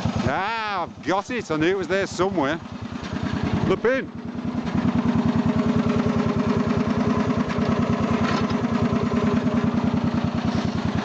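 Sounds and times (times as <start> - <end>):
lawn tractor engine running: 0.0 - 11.0.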